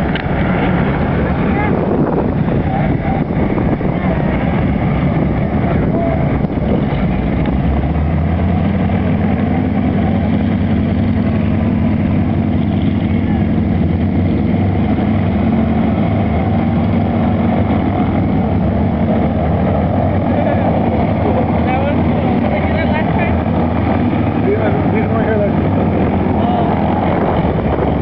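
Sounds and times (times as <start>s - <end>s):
propeller plane engines droning: 0.0s - 28.0s.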